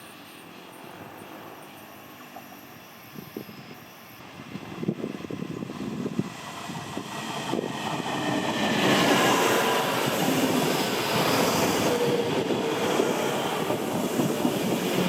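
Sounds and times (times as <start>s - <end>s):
diesel railcar engines: 0.0s - 15.0s
train wheels on rails: 0.0s - 15.0s.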